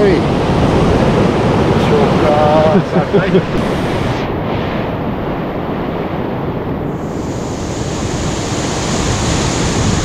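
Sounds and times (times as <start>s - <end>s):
ocean surf breaking on beach: 0.0s - 10.0s.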